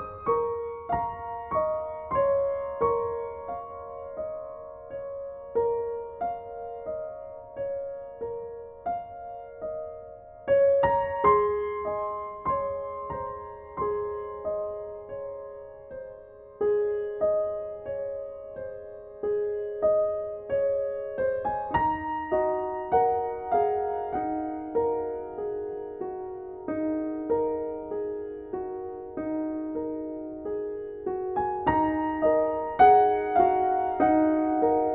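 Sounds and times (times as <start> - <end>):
soft piano music: 0.0 - 34.9.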